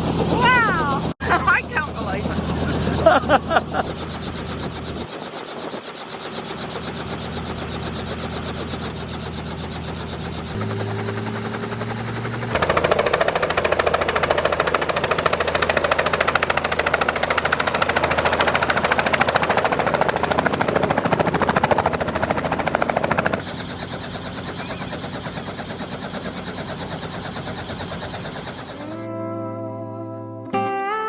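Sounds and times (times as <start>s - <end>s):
helicopter rotor beating: 0.0s - 29.1s.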